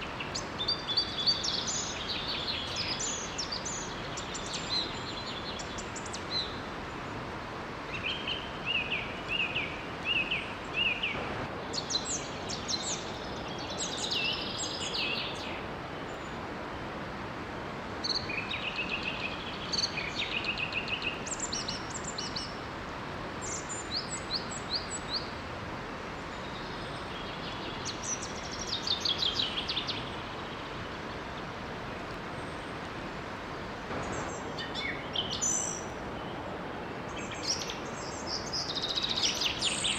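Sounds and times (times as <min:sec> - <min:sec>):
small waterfall rushing: 0:00.0 - 0:39.9
songbirds chirping and trilling: 0:00.0 - 0:39.9.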